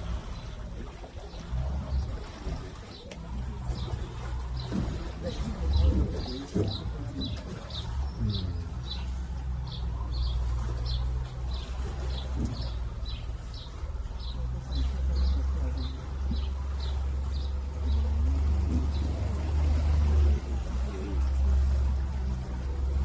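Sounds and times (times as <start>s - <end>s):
boat motor humming: 0.0s - 23.0s
songbird chirping: 0.1s - 23.0s.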